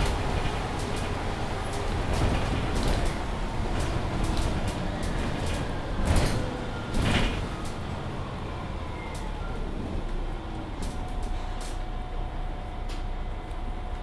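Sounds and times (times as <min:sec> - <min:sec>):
bus drivetrain and road rumble: 0:00.0 - 0:14.0.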